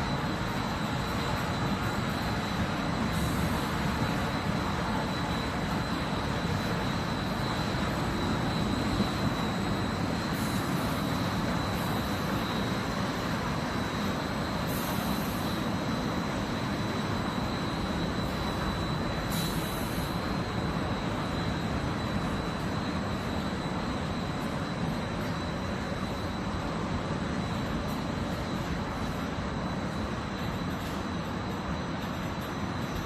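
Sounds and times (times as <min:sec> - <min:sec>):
production machine running: 0:00.0 - 0:30.9
thin high whine: 0:00.0 - 0:33.0.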